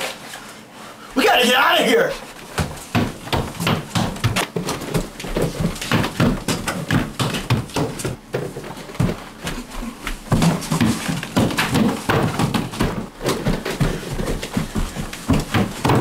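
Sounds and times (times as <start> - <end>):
footsteps running up stairs: 1.1 - 16.0.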